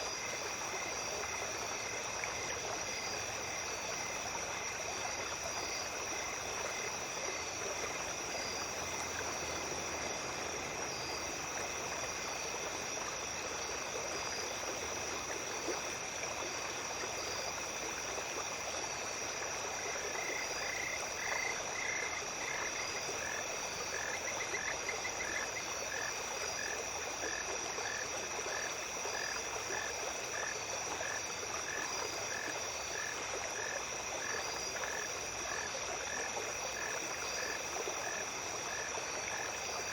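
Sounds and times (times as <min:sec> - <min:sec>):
insects trilling: 0:00.0 - 0:39.9
water flowing over stones: 0:00.0 - 0:39.9.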